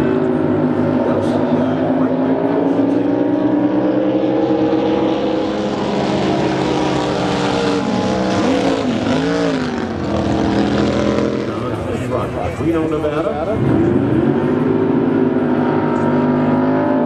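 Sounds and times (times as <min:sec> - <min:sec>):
drag boat engine running: 0:00.0 - 0:17.0.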